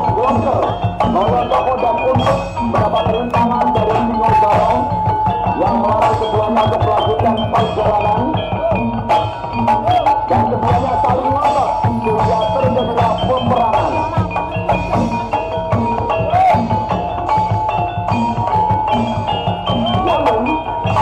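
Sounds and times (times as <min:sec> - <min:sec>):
drum strokes: 0:00.0 - 0:21.0
metallophones ringing: 0:00.0 - 0:21.0
wavering melody line: 0:00.0 - 0:21.0.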